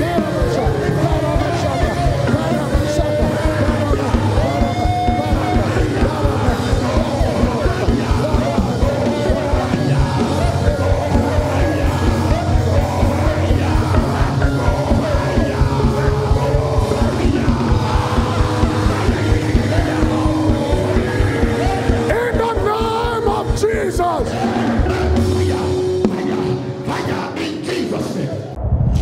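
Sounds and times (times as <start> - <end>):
loud music with fast beat: 0.0 - 27.2
congregation praying aloud: 0.0 - 28.6.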